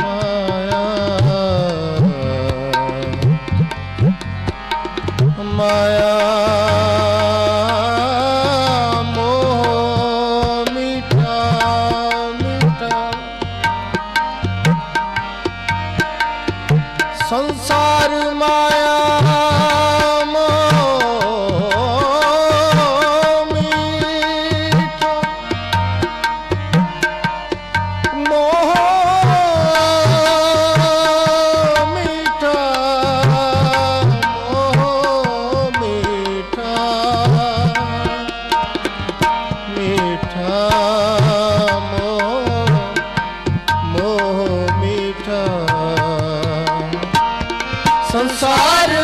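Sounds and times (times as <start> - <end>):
harmonium: 0.0 - 49.0
tabla rhythm: 0.0 - 49.0.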